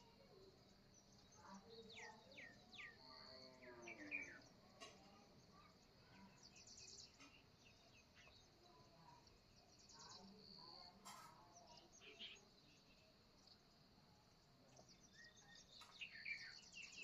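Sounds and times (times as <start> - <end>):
faint birdsong: 0.0 - 17.0.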